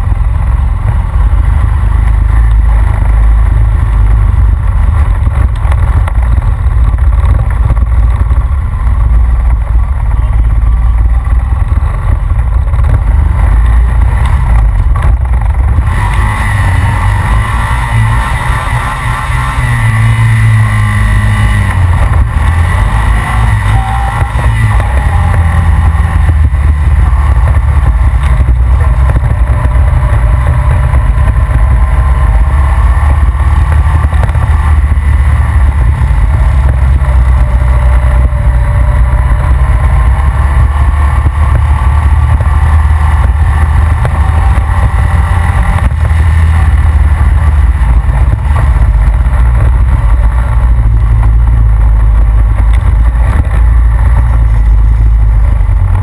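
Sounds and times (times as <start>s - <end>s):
atv engine rumble: 0.0s - 56.0s.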